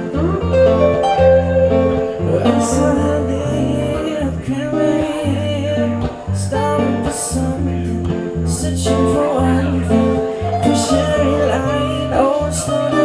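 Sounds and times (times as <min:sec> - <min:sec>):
live reggae band: 0:00.0 - 0:13.0.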